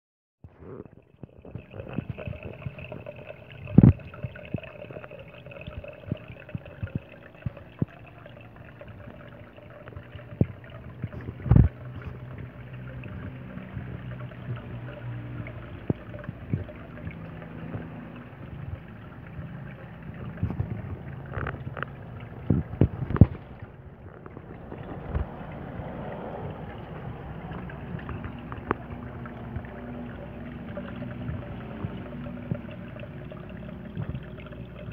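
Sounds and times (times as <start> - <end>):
filter pump humming with water: 0.4 - 34.9.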